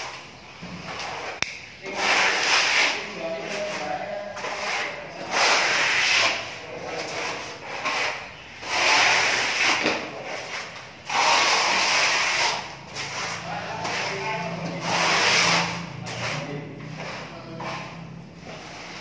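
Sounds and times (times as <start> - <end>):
hand tool scraping plaster wall: 0.0 - 19.0.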